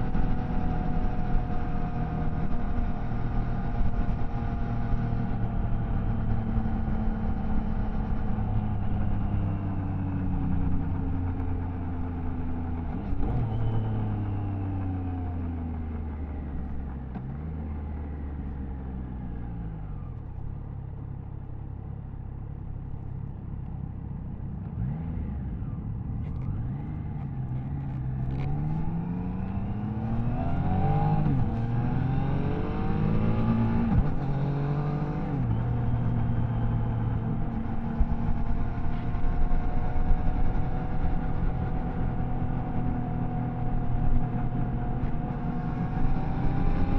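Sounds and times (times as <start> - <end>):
motorcycle engine shifting gears: 0.0 - 21.1, 22.7 - 46.9.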